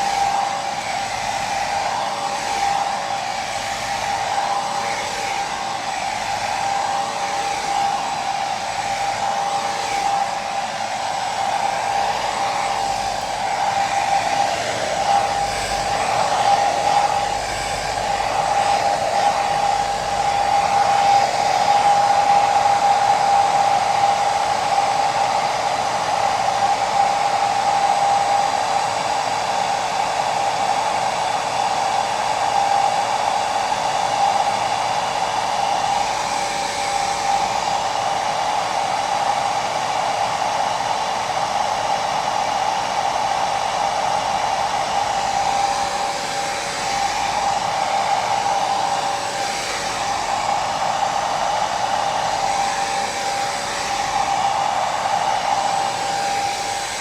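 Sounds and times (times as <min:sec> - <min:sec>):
electric hair dryer running: 0:00.0 - 0:57.0.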